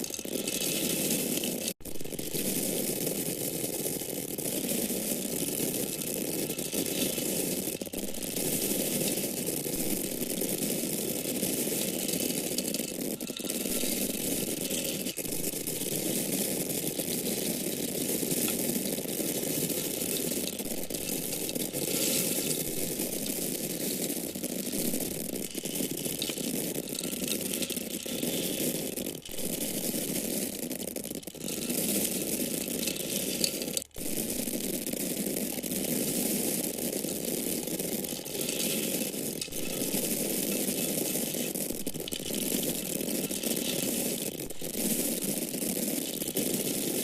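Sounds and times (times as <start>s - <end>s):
corn kernels rattling: 0.0s - 47.0s.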